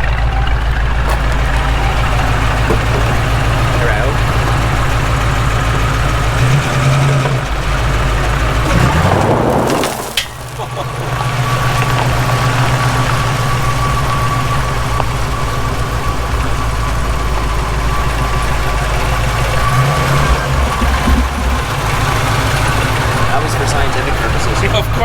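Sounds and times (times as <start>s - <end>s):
car engine fast idle: 0.0s - 25.0s
engine revving: 0.0s - 25.0s.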